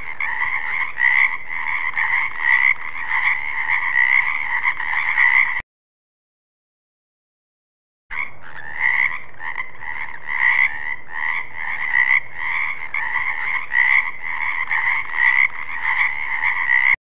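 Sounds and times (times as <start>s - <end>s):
frog croaking: 0.0s - 5.6s, 8.1s - 17.0s.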